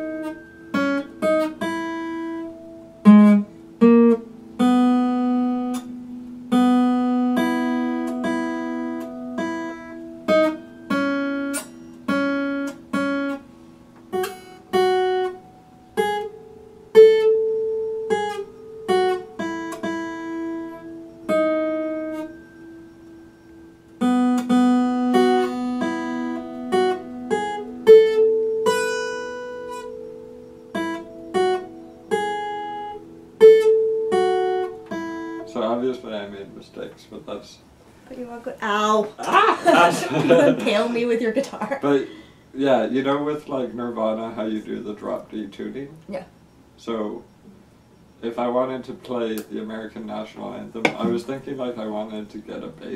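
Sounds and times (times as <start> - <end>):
acoustic guitar plucked notes: 0.0 - 37.4, 38.2 - 52.9.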